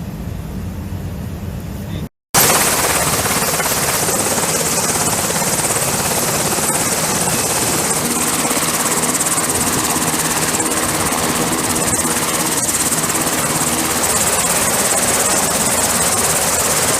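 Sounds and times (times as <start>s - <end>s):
jet engine roar with whine: 0.0s - 16.9s.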